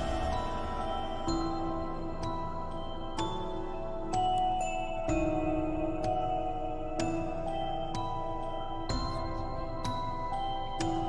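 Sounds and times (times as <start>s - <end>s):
slow music of sustained notes: 0.0s - 11.0s.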